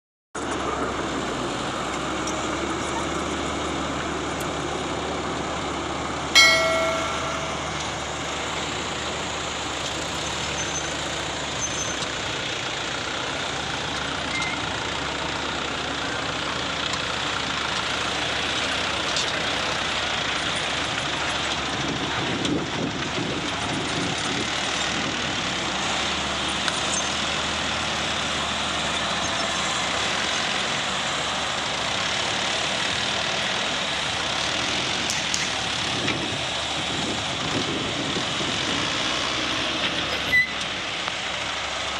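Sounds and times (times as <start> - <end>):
truck engine and road noise: 0.4 - 41.9.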